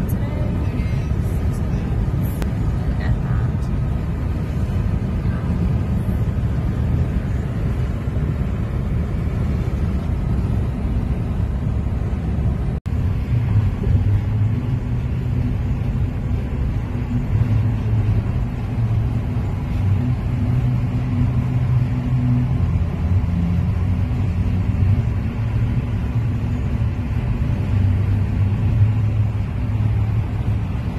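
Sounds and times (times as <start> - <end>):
car road noise: 0.0 - 30.9
low hum: 0.0 - 30.9.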